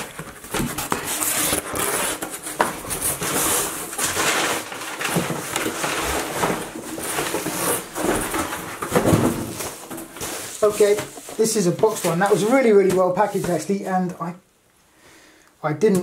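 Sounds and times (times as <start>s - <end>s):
cardboard and packing rustling: 0.0s - 14.3s.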